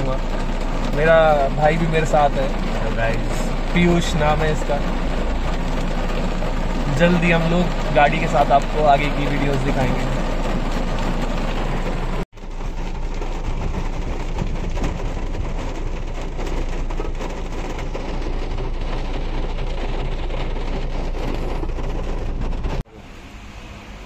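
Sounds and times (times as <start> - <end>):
vehicle road noise: 0.0 - 24.0.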